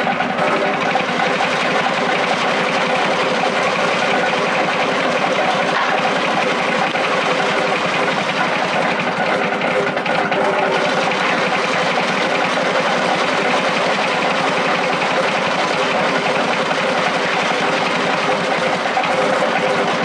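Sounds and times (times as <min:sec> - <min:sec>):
small petrol engine running: 0:00.0 - 0:20.0.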